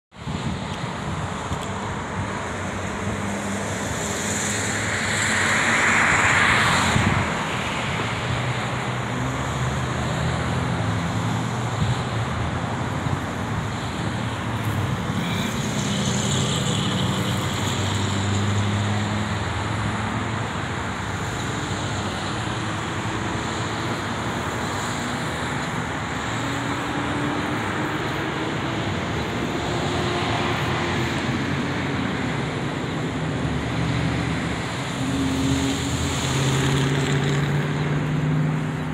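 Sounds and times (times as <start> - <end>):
road traffic engine noise: 0.1 - 38.9.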